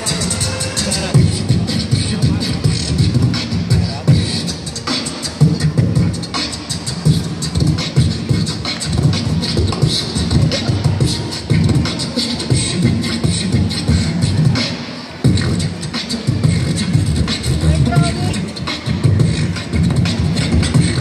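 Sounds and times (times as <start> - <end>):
beatboxing into a microphone: 0.0 - 21.0.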